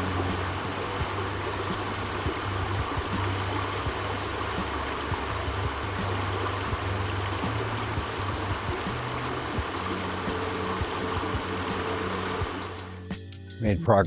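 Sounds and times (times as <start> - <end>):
creek water rushing: 0.0 - 13.1.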